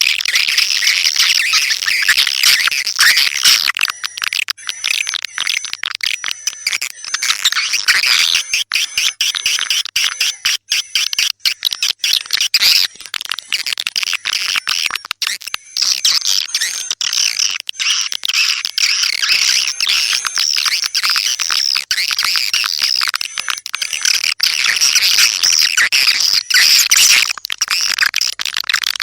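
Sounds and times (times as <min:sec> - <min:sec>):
swiftlets twittering: 0:00.0 - 0:29.0.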